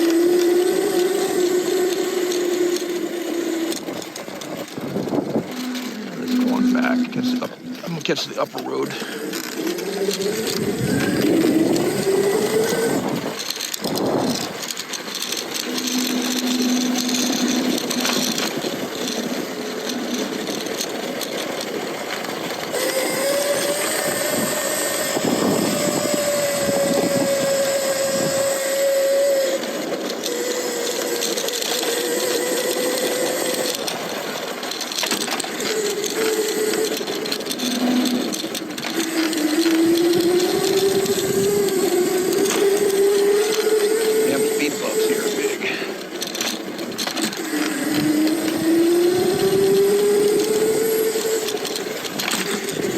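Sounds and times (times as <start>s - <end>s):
electric bike motor whining: 0.0s - 52.9s.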